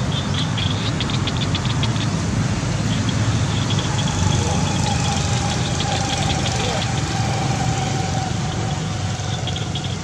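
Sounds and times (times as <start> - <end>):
rapid high ticking: 0.0 - 10.0.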